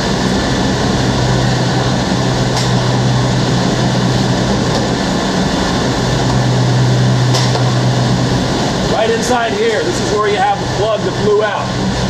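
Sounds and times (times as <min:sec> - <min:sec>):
diesel generators droning: 0:00.0 - 0:12.0.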